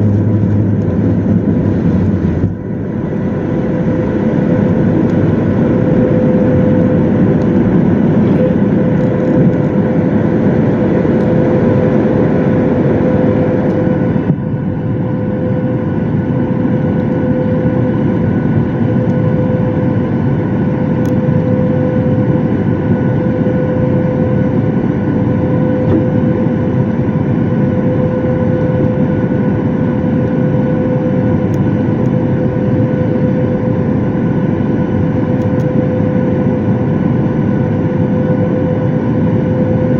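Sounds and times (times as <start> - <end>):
jet engines in airliner cabin: 0.0 - 39.9.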